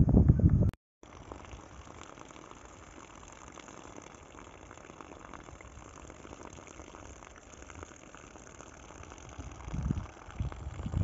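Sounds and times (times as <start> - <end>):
running water trickling: 1.0 - 11.0.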